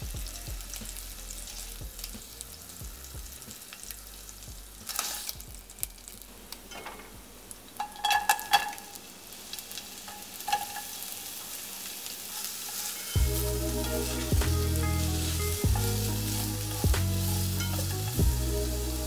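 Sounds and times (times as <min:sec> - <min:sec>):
garlic sizzling in oil: 0:00.0 - 0:19.0.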